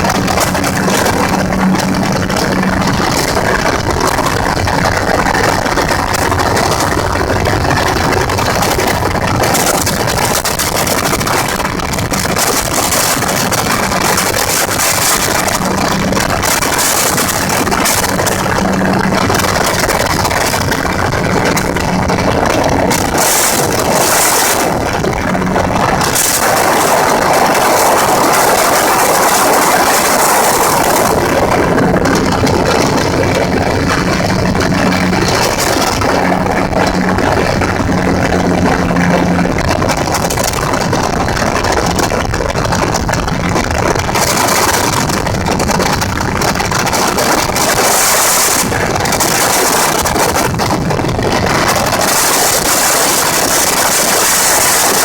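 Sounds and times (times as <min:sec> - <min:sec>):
gyrocopter engine running: 0:00.0 - 0:55.0
loud rushing noise: 0:00.0 - 0:55.0
low hum: 0:00.0 - 0:55.0.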